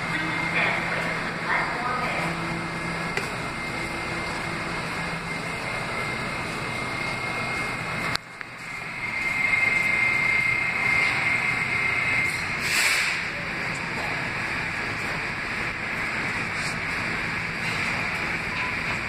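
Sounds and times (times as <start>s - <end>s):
high whine: 0.0s - 19.0s
subway station din: 0.0s - 19.0s
subway train rumble: 0.0s - 19.0s.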